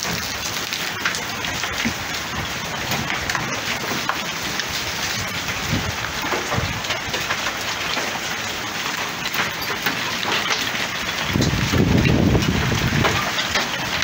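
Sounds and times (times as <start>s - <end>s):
hailstones ticking: 0.0s - 14.0s
heavy rain hissing: 0.0s - 14.0s.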